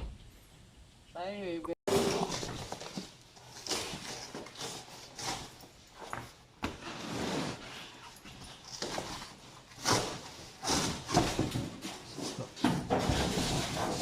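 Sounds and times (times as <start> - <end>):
objects scraping and knocking: 1.9 - 14.0.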